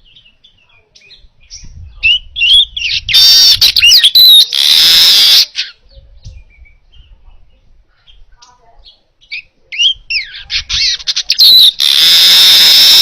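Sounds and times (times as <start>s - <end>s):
bird chirping and chattering: 0.0s - 13.0s.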